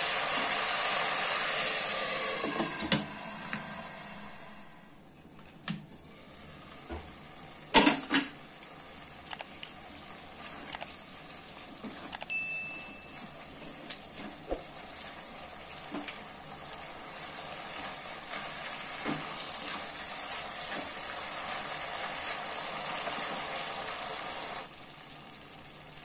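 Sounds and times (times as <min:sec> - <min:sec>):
sauce sizzling in a pan: 0:00.0 - 0:04.8, 0:06.1 - 0:12.1, 0:12.7 - 0:26.0.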